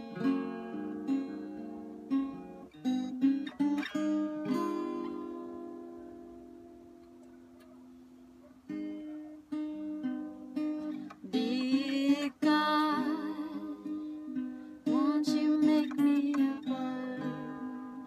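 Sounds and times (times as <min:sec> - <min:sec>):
acoustic guitar playing: 0:00.0 - 0:18.0.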